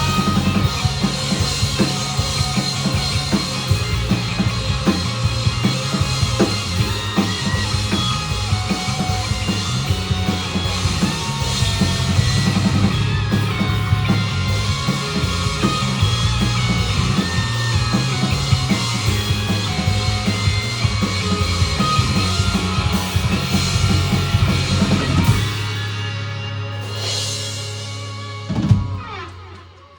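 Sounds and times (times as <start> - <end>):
dense drumming: 0.0 - 29.3
live rock band playing: 0.0 - 29.9.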